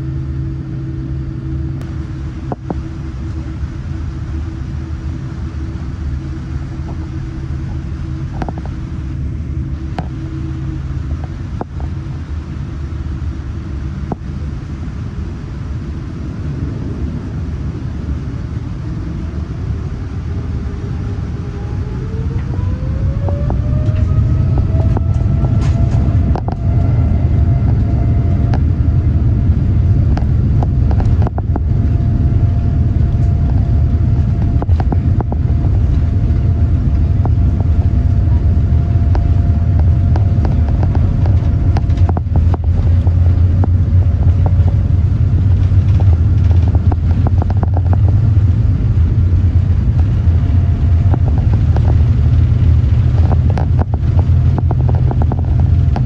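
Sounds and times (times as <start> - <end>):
deep engine rumble: 0.0 - 56.0
jet engine whine rising: 0.0 - 56.0.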